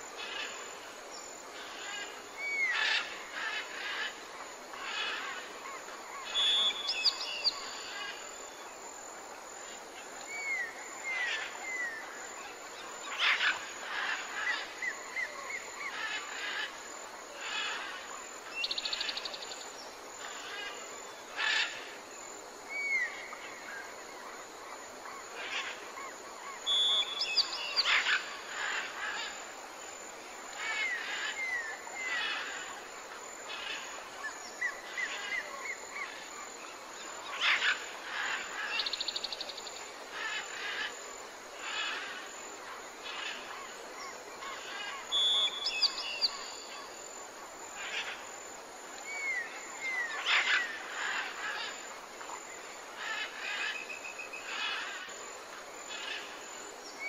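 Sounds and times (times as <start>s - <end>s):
background hiss: 0.0s - 57.0s
forest birds singing: 0.1s - 8.8s, 9.6s - 57.0s.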